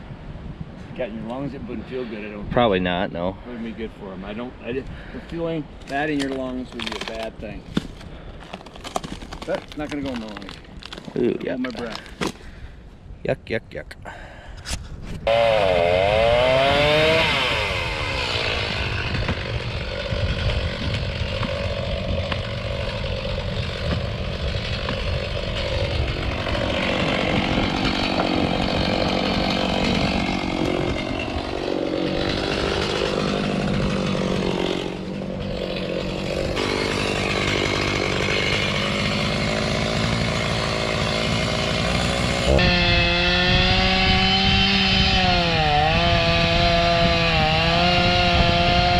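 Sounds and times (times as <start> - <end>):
chainsaw cutting wood: 5.9 - 12.4, 15.2 - 48.9.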